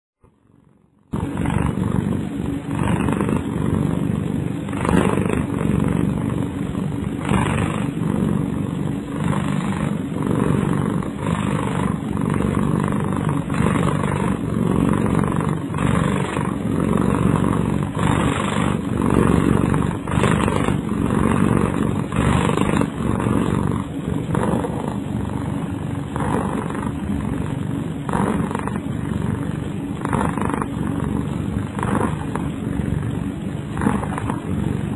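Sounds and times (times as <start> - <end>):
cat snoring: 0.2 - 34.9.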